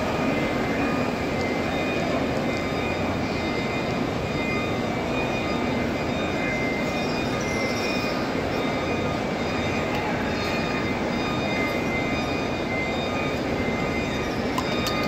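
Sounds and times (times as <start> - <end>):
murmur of a vast crowd: 0.0 - 15.0.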